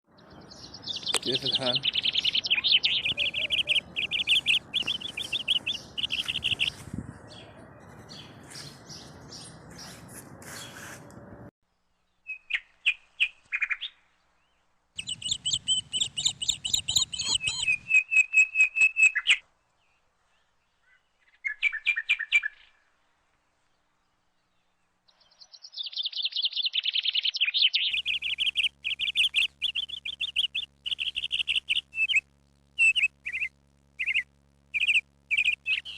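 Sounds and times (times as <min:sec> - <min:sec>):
small birds chirping in trills: 0:00.0 - 0:11.0, 0:11.7 - 0:23.0, 0:23.6 - 0:35.9.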